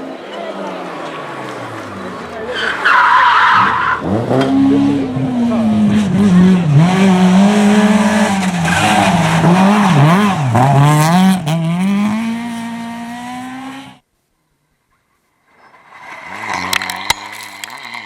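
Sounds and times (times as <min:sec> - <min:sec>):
rally car engine revving: 0:00.4 - 0:14.0, 0:15.4 - 0:18.0.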